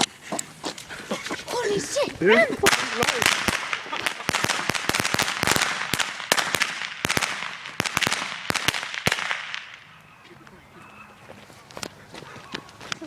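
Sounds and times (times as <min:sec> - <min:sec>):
crackling hiss: 0:00.0 - 0:13.0
firecrackers banging: 0:00.0 - 0:13.0.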